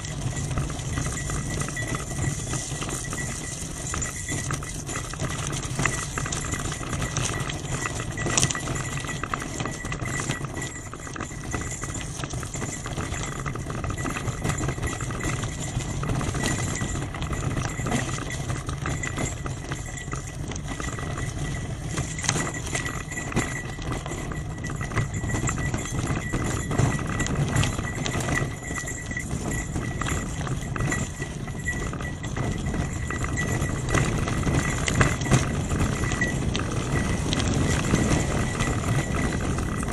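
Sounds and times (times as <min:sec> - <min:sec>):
bicycle rattling on rough track: 0:00.0 - 0:39.9.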